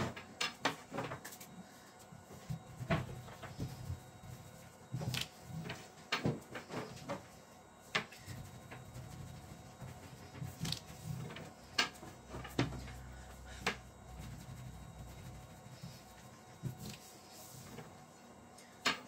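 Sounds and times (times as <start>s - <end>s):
rolling pin rolling dough: 0.0s - 19.0s.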